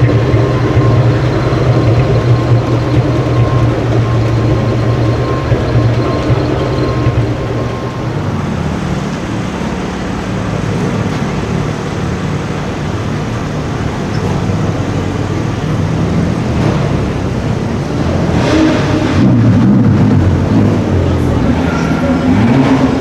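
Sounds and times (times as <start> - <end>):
car engine running at low revs: 0.0 - 23.0
street traffic noise: 0.0 - 23.0.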